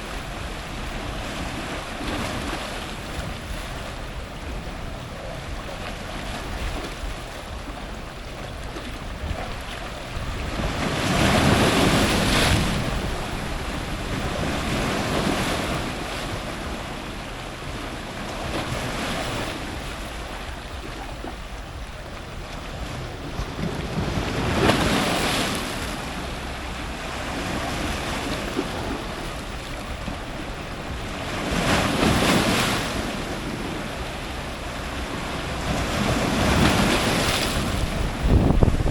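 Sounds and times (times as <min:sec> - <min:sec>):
big waves breaking: 0:00.0 - 0:38.9
ocean surf washing: 0:00.0 - 0:38.9.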